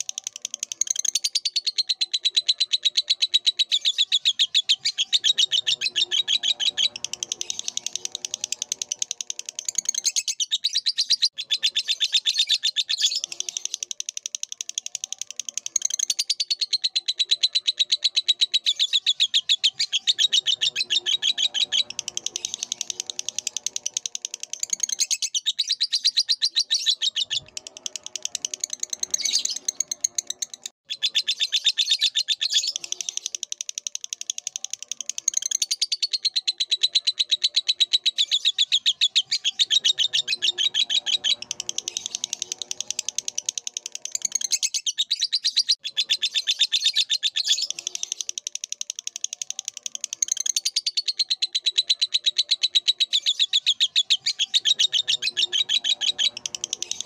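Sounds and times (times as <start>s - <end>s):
lovebird chattering song: 0.0s - 57.0s
softer lower-pitched bird calls: 0.0s - 57.0s.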